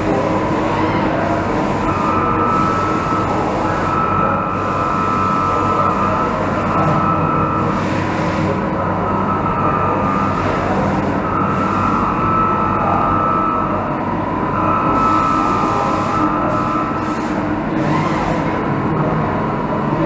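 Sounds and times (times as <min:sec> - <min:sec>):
machinery rumble and hum: 0:00.0 - 0:20.0
thin high whine: 0:00.0 - 0:20.0.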